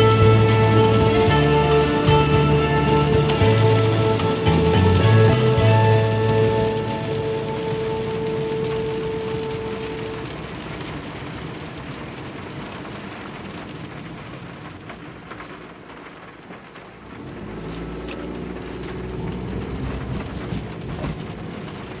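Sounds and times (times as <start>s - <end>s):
rain on car windshield: 0.0s - 22.0s
raindrop taps: 0.0s - 22.0s
tyre and road noise: 0.0s - 22.0s.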